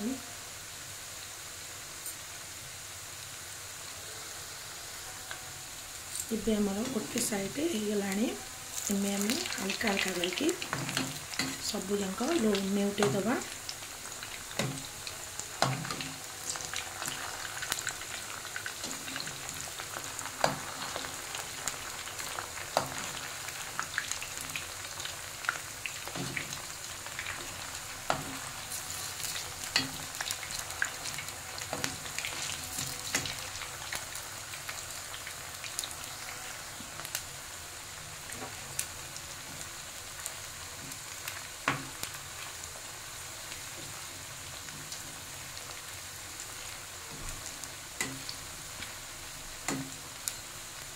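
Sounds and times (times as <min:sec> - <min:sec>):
food deep-frying in bubbling oil: 0:00.0 - 0:50.9.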